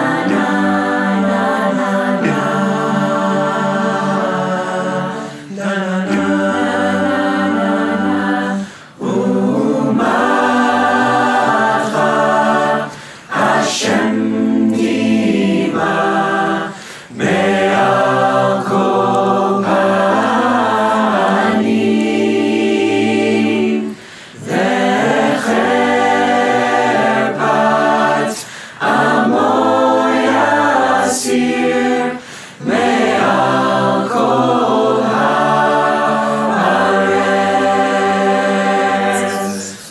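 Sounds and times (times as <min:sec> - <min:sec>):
choir singing a cappella: 0:00.0 - 0:39.9.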